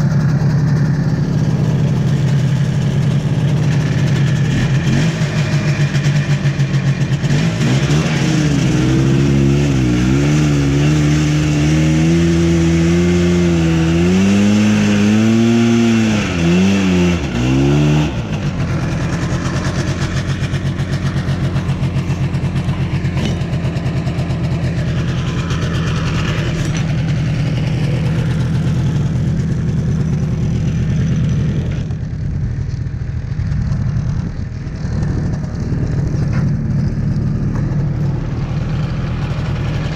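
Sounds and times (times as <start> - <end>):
snowmobile engine revving and idling: 0.0 - 39.9.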